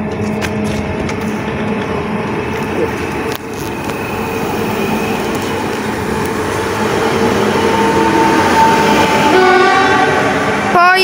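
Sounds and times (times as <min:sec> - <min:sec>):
train motor whine: 0:00.0 - 0:10.8
train wheels rumbling: 0:00.0 - 0:11.0.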